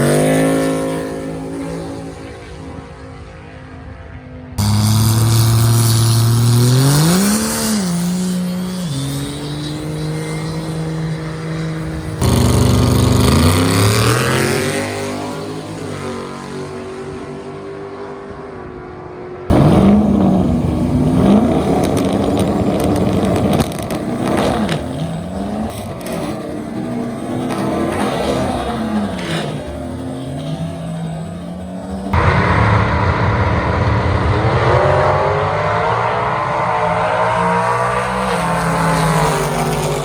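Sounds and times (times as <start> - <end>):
racing car engines revving: 0.0 - 40.0.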